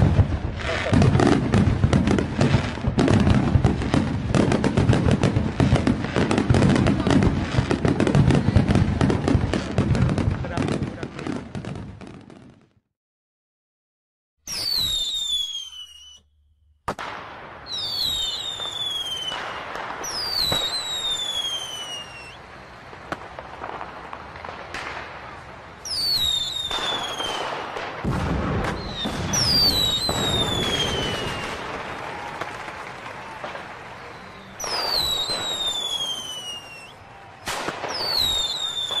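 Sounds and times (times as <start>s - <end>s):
deep fireworks booms: 0.0s - 12.8s, 16.8s - 39.0s
fireworks bangs and crackling: 0.0s - 12.8s, 14.5s - 16.2s, 16.8s - 39.0s
whistling fireworks: 0.0s - 12.8s, 14.4s - 39.0s.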